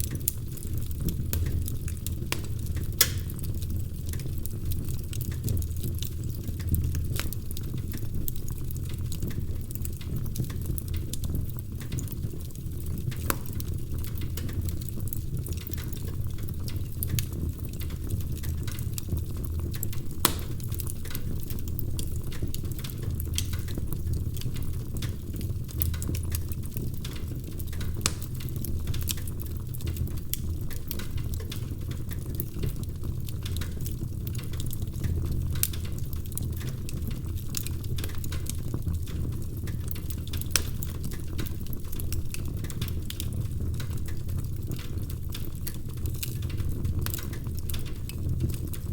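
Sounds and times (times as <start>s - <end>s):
low rumble of flames: 0.0s - 48.9s
wood fire crackling: 0.0s - 48.9s.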